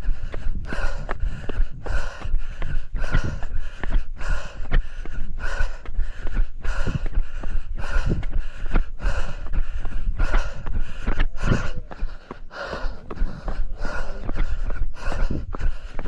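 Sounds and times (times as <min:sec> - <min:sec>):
footsteps on a trail: 0:00.0 - 0:16.0
heavy open-mouth breathing: 0:00.0 - 0:16.0
wind rumble on microphone: 0:00.0 - 0:16.0.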